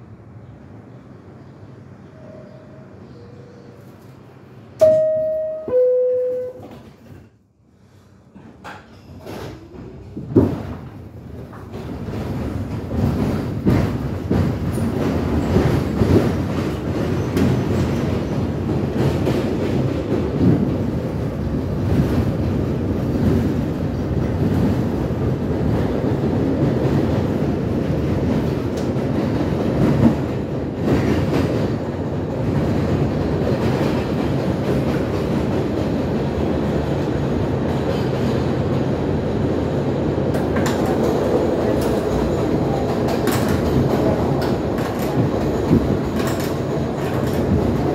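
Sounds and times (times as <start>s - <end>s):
train wheels rumbling on rail: 6.6s - 47.9s.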